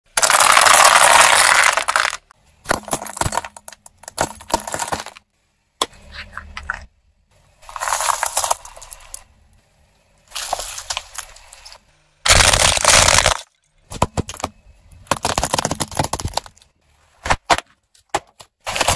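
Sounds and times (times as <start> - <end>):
tyre crushing plastic objects: 0.1 - 5.2, 7.6 - 9.2, 10.3 - 18.9.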